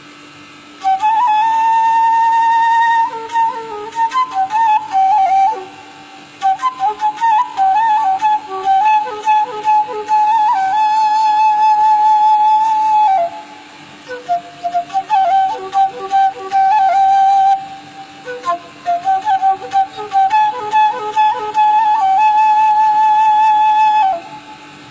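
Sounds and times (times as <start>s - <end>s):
bamboo flute melody: 0.0s - 24.9s.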